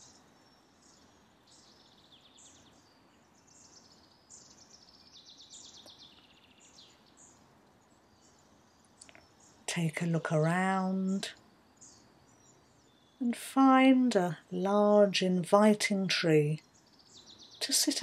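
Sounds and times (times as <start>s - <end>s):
birds chirping and trilling: 0.0s - 18.0s
soft steady hiss: 0.0s - 18.0s.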